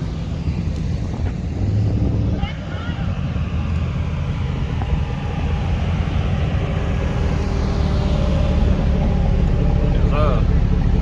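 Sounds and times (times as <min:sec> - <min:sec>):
vehicle engine rumbling: 0:00.0 - 0:11.0
vehicle rushing past: 0:00.0 - 0:11.0.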